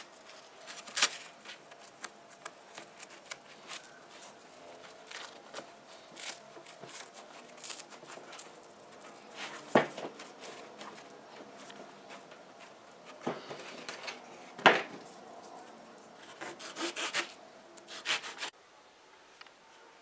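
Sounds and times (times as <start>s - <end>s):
hands rustling foam: 0.0s - 17.3s.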